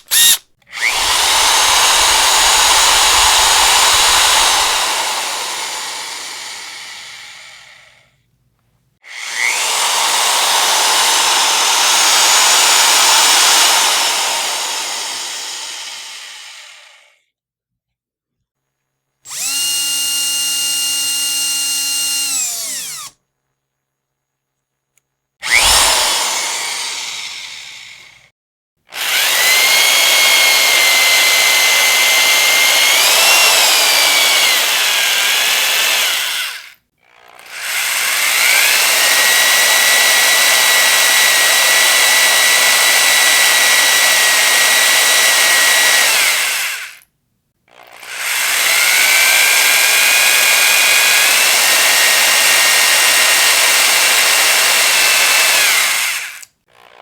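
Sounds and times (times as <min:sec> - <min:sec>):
power drill drilling: 0:00.0 - 0:08.0, 0:09.0 - 0:17.1, 0:19.3 - 0:23.2, 0:25.4 - 0:28.3, 0:28.9 - 0:47.0, 0:47.7 - 0:57.0.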